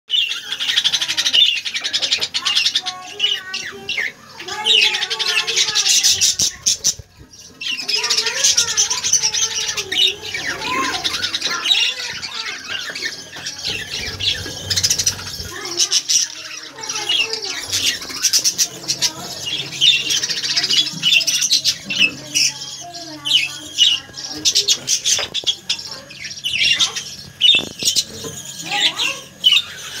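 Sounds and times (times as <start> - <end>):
budgerigars chattering and squawking: 0.1 - 30.0.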